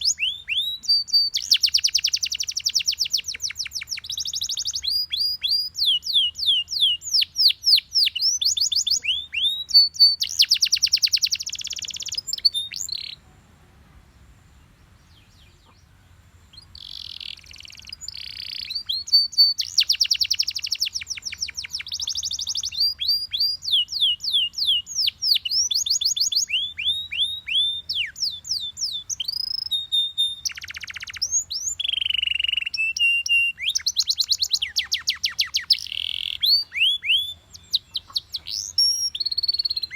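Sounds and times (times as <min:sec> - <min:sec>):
canary singing: 0:00.0 - 0:13.2, 0:15.0 - 0:39.9.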